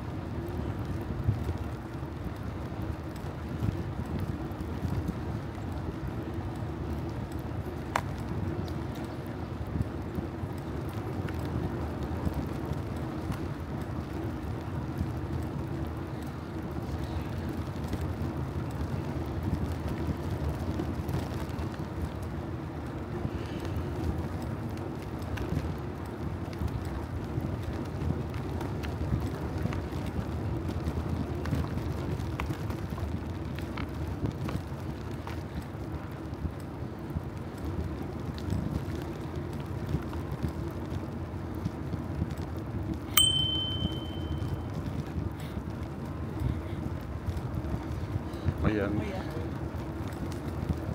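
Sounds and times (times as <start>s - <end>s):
bicycle clicks and rattles: 0.0s - 50.9s
wind and road rumble: 0.0s - 50.9s.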